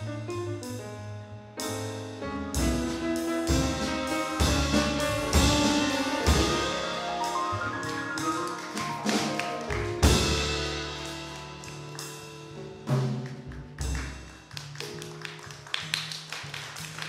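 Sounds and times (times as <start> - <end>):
small jazz combo playing: 0.0 - 17.0.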